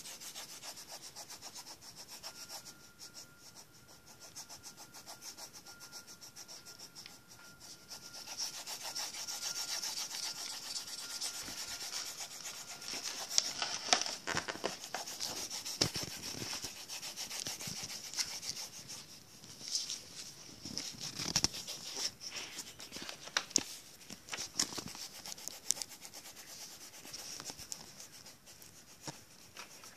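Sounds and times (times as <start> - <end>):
pencil scratching on paper: 0.0 - 19.6, 20.2 - 23.0, 24.4 - 29.9.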